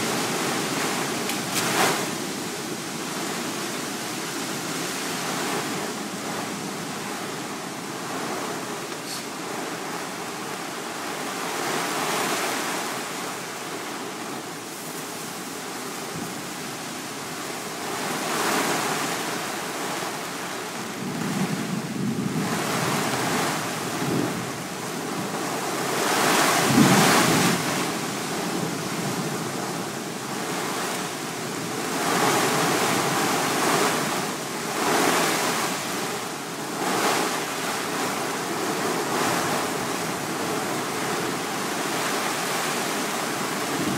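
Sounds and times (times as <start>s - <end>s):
strong wind gusting: 0.0s - 43.9s.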